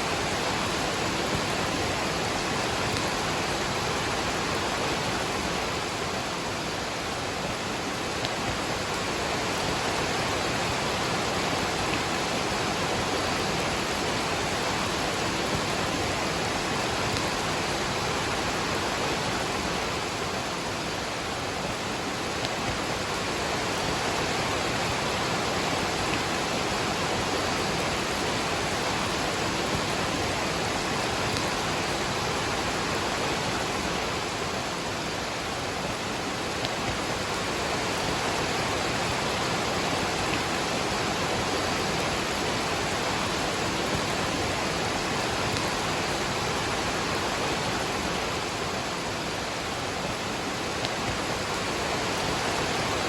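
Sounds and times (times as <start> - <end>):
rain falling: 0.0 - 53.0
waterfall rushing: 0.0 - 53.0.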